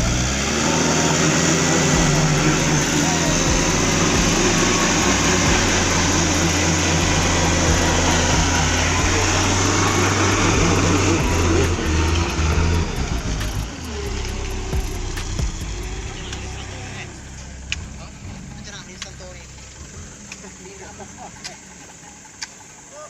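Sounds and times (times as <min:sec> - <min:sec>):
truck diesel engine under load: 0:00.0 - 0:23.0.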